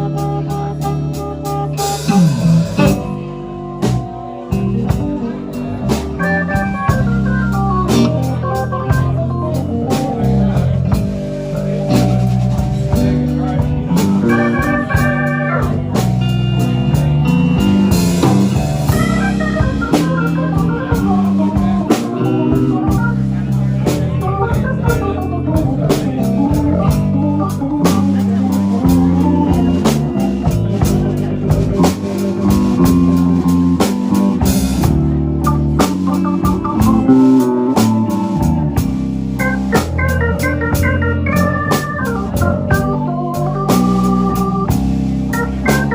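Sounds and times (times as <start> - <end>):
drums: 0.0 - 45.9
electric guitar: 0.0 - 45.9
keyboard holding high notes: 0.0 - 45.9
organ chords: 0.0 - 45.9.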